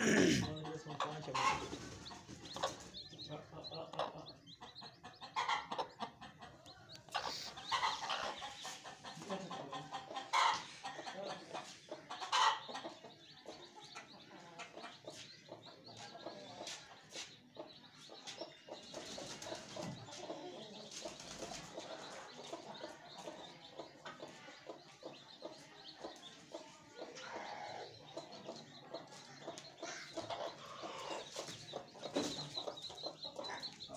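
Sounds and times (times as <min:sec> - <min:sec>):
chicks peeping: 0:00.0 - 0:33.9
hen clucking: 0:00.0 - 0:33.9.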